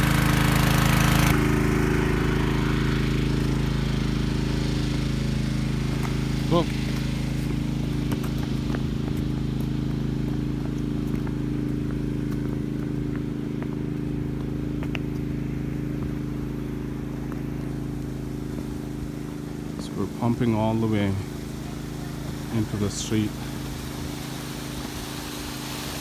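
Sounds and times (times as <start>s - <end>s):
water pump humming: 0.0s - 26.0s.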